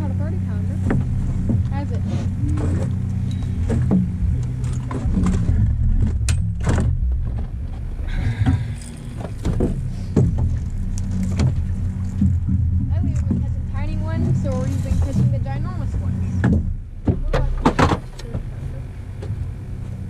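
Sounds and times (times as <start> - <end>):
gear knocking and rattling: 0.0 - 20.0
outboard motor idling: 0.0 - 20.0.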